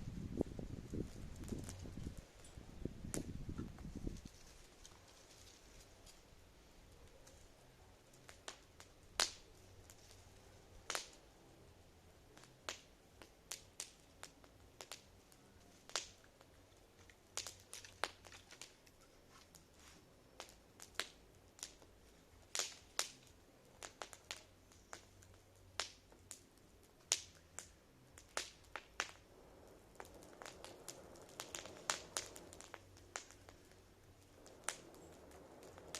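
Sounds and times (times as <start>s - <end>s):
campfire crackling: 0.0s - 35.9s
faint steady hiss: 0.0s - 35.9s.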